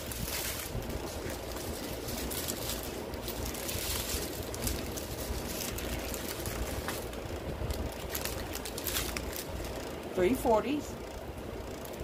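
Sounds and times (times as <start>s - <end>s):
plastic bags crinkling: 0.0s - 10.2s
low background hum: 0.0s - 12.0s.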